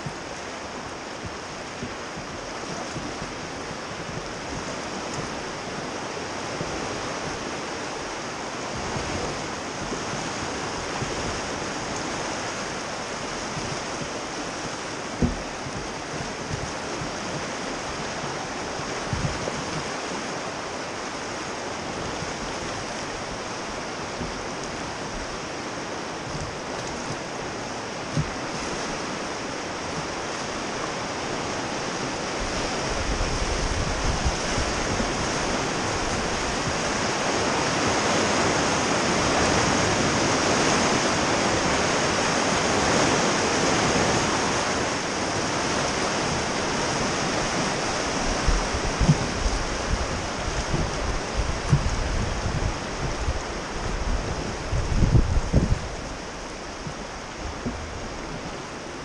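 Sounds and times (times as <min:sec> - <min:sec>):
whitewater rushing: 0:00.0 - 0:59.0.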